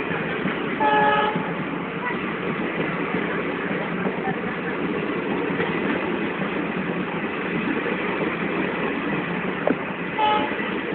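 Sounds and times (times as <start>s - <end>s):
train wheels on rails: 0.0s - 10.9s.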